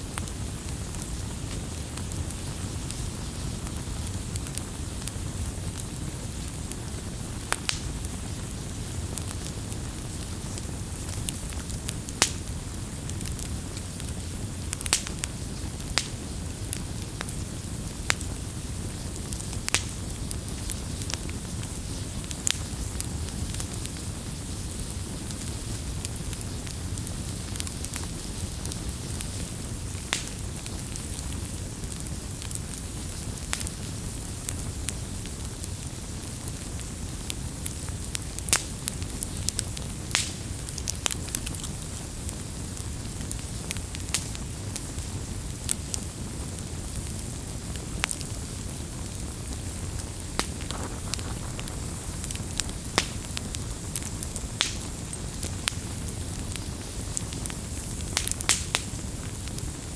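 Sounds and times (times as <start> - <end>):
campfire flames rumbling: 0.0 - 59.9
wood crackling and popping: 0.0 - 59.9.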